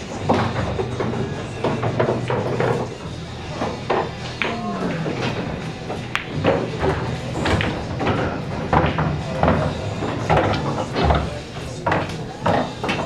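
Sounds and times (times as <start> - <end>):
background voices: 0.0 - 13.0
bar music: 0.0 - 13.0
pool balls clicking: 0.0 - 13.0.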